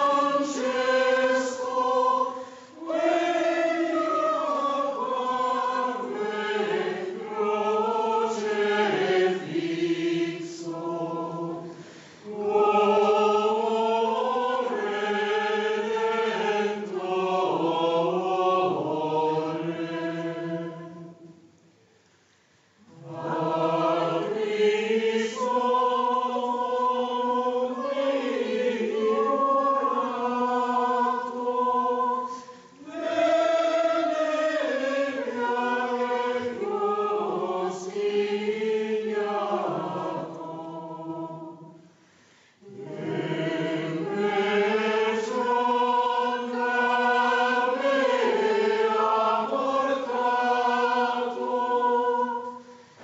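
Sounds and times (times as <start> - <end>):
mixed choir singing a cappella: 0.0 - 21.5, 22.8 - 53.0.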